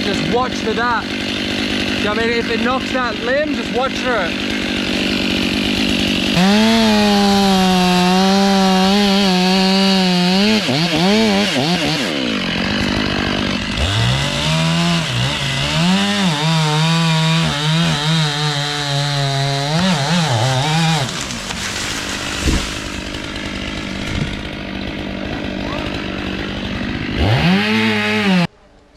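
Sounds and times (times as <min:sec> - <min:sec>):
chainsaw revving: 0:00.0 - 0:28.5.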